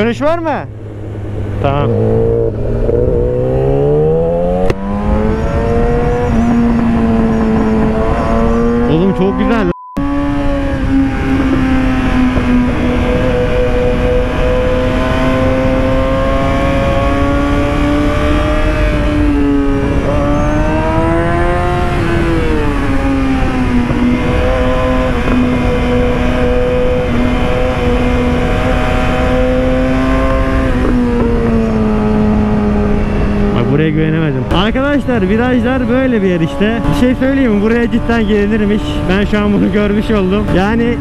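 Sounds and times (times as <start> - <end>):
wind rushing over microphone: 0.0 - 41.0
motorcycle engine at high revs: 0.7 - 41.0.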